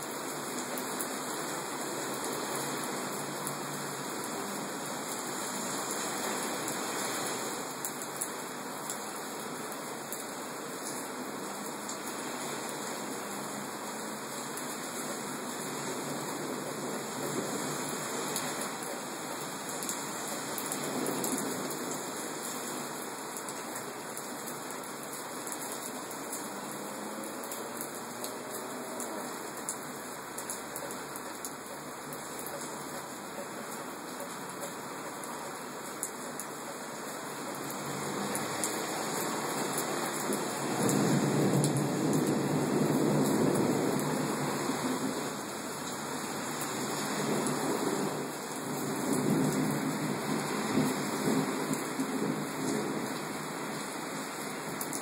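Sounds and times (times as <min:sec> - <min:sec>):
hard rain pouring: 0:00.0 - 0:55.0
rain drops ticking: 0:00.0 - 0:55.0.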